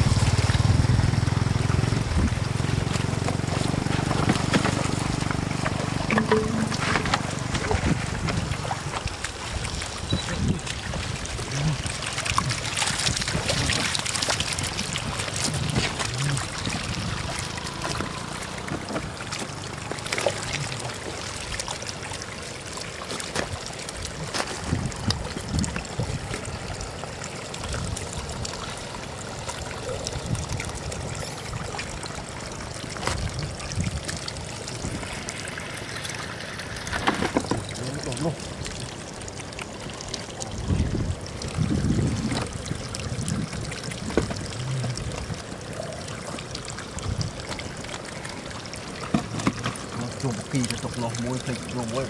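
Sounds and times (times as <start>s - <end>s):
fish flopping and splashing: 0.0s - 52.0s
water trickling over gravel: 0.0s - 52.0s.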